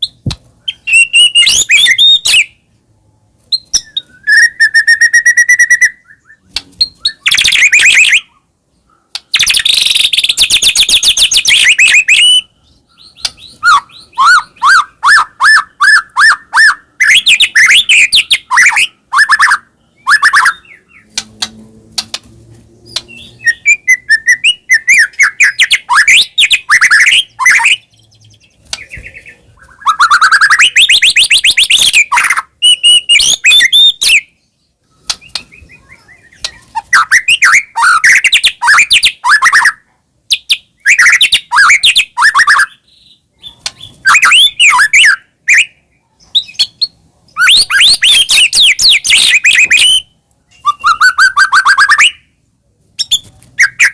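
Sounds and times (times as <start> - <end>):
songbird singing whistles and trills: 0.0 - 2.7, 3.5 - 21.2, 22.8 - 52.4, 53.0 - 53.9.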